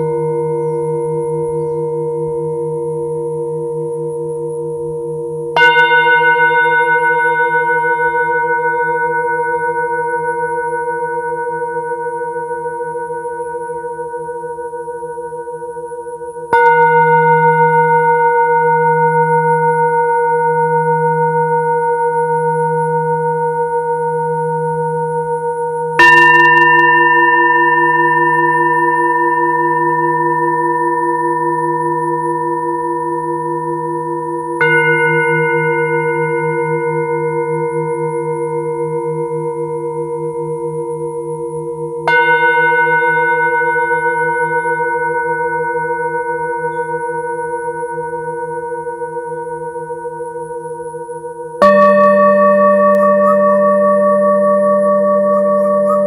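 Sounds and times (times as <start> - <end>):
singing bowls ringing: 0.0 - 56.0.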